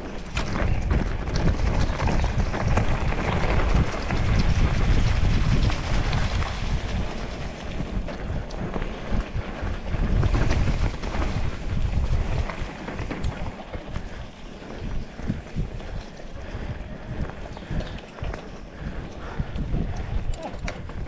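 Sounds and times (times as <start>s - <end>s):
bike clicks and rattles: 0.0s - 21.0s
tyre noise on dirt: 0.0s - 21.0s
wind buffeting microphone: 0.0s - 21.0s.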